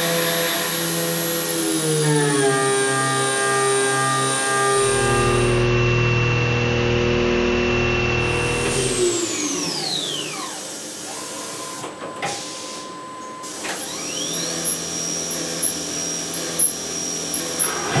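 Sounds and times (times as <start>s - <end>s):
milling machine spindle whine: 0.0s - 18.0s.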